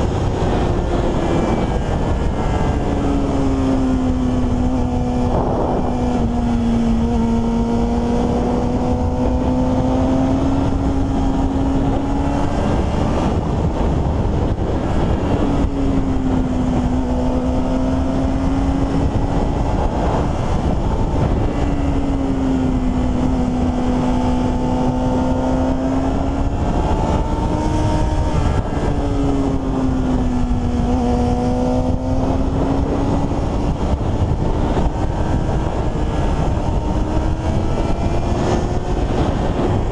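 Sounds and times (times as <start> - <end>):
heavy wind noise: 0.0 - 39.9
motorcycle engine at high revs: 0.0 - 39.9.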